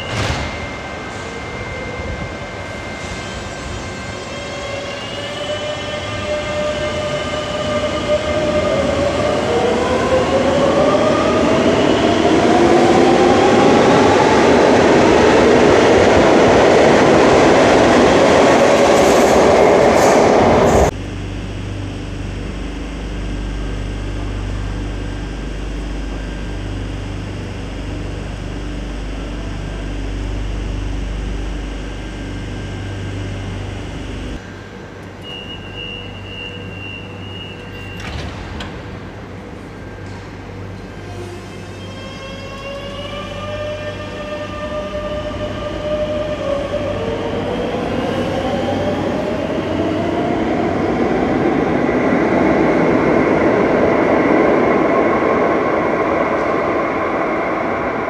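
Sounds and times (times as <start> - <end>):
low hum of standing train: 0.0 - 58.0
train traction motor whine: 0.0 - 58.0.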